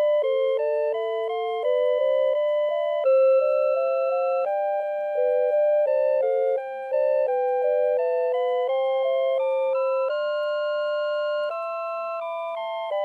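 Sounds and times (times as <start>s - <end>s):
alarm clock electronic melody: 0.0s - 13.0s.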